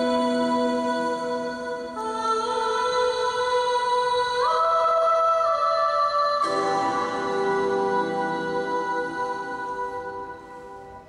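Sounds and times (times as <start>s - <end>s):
held chord of ringing tones: 0.0s - 11.0s.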